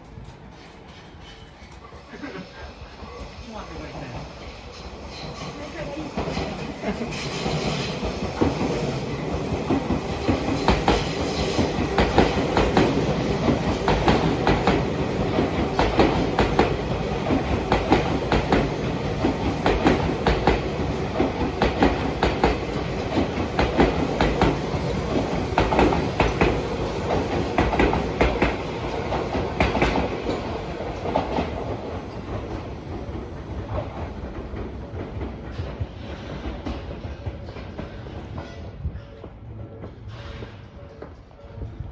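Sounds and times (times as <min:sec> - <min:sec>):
train rumble: 0:00.0 - 0:41.9
train wheels clacking over rail joints: 0:04.0 - 0:41.3.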